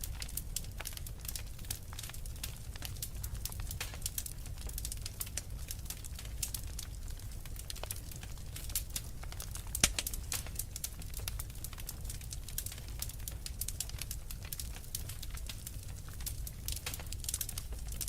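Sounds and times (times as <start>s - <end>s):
logs crackling in fireplace: 0.0s - 18.0s.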